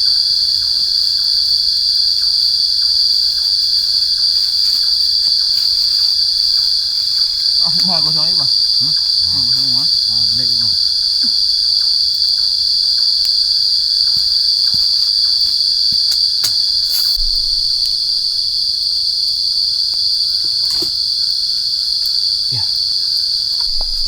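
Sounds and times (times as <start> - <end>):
shrill insect chorus: 0.0 - 24.0.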